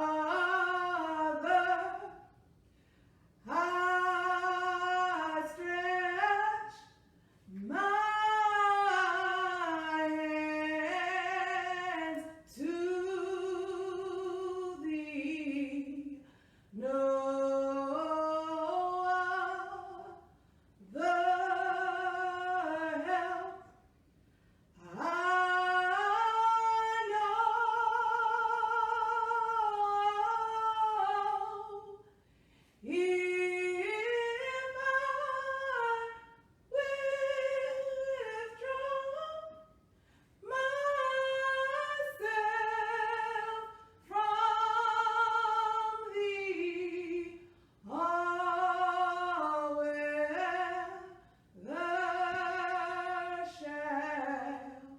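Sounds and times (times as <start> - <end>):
person singing a hymn: 0.0 - 2.2, 3.4 - 6.9, 7.5 - 20.2, 20.8 - 23.8, 24.8 - 32.0, 32.8 - 39.7, 40.4 - 54.9.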